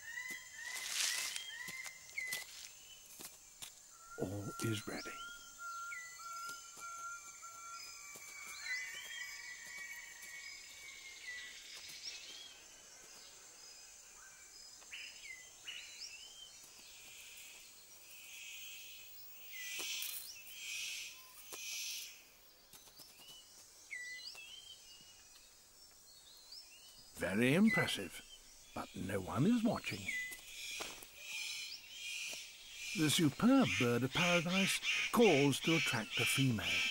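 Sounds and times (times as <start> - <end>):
birds chirping: 0.0 - 36.9
faint insect drone: 0.0 - 36.9.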